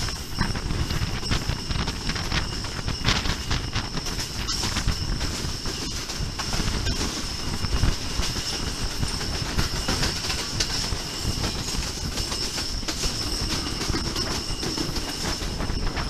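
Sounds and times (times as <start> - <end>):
high whine: 0.0 - 16.0
train wheels rumbling on track: 0.0 - 16.0.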